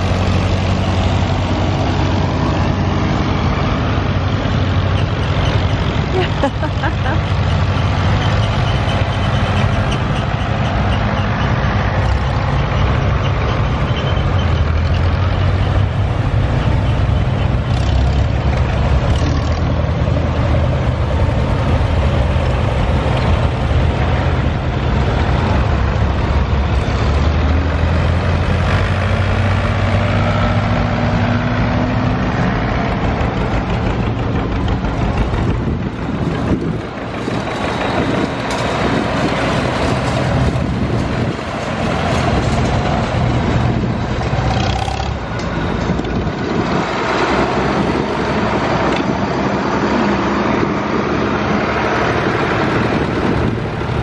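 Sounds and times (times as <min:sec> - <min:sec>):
tractors driving past: 0:00.0 - 0:54.0.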